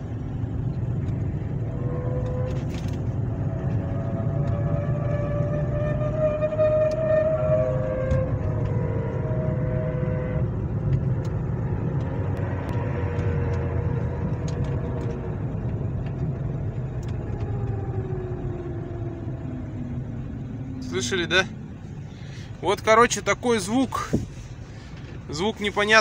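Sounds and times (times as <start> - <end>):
pitched hum from car: 0.0 - 26.0
road rumble inside car: 0.0 - 26.0.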